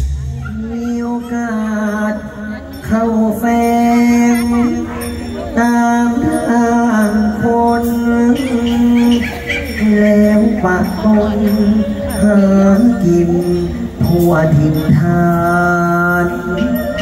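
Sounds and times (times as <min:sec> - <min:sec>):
man chanting through speakers: 0:00.2 - 0:17.0.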